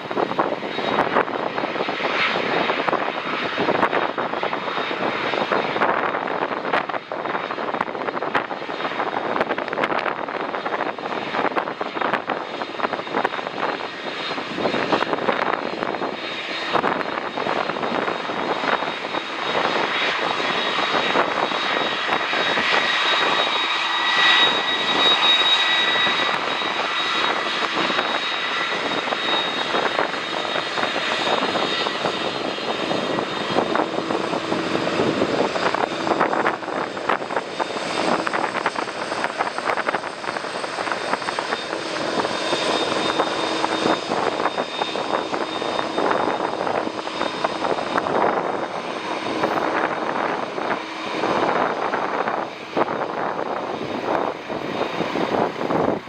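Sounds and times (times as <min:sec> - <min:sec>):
jet engines rushing and whining: 0:00.0 - 0:56.0
wind buffeting microphone: 0:00.0 - 0:56.0.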